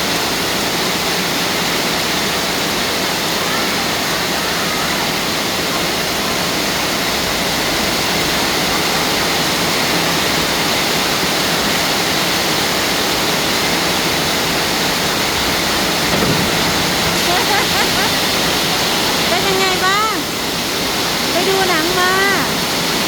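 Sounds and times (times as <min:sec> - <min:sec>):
pouring rain: 0:00.0 - 0:23.0
running water: 0:00.0 - 0:23.0.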